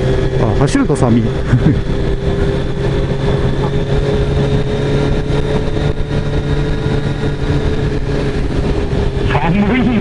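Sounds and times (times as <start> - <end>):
motorcycle engine cruising: 0.0 - 10.0
wind noise on microphone: 0.0 - 10.0.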